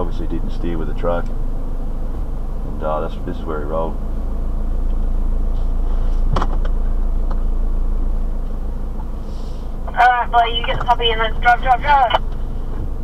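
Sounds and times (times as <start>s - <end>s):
engine idling rumble: 0.0s - 13.0s.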